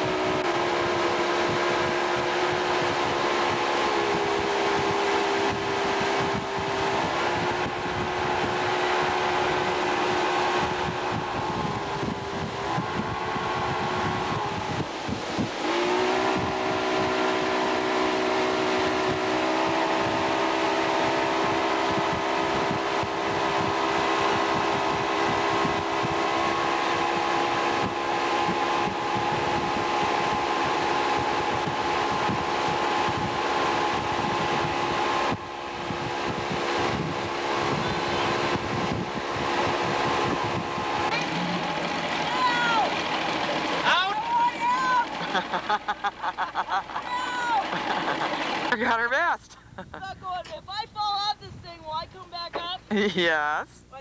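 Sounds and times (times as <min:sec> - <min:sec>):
rush of wind and water: 0:00.0 - 0:49.3
motorboat engine running: 0:00.0 - 0:53.2.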